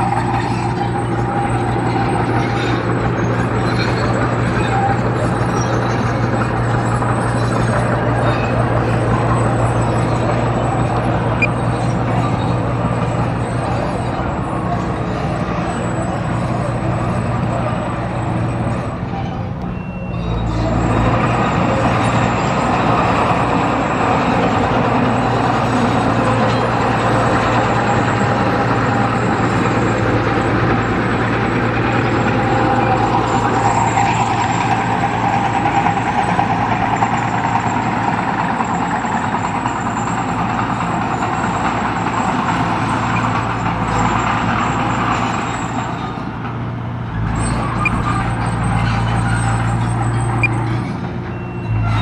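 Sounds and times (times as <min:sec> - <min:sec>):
diesel construction machine running: 0:00.0 - 0:52.0.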